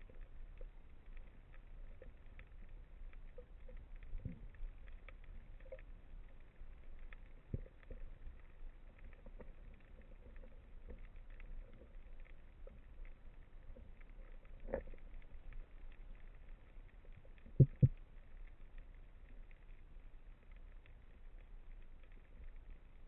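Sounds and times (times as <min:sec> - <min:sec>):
underwater crackling and clicks: 0:00.0 - 0:23.0.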